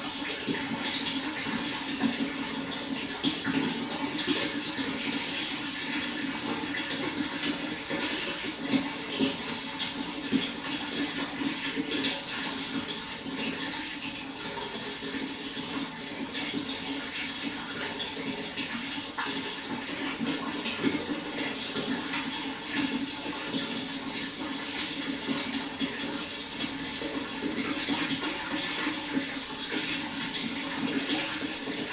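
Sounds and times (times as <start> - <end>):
water flowing with splashes: 0.0 - 31.9.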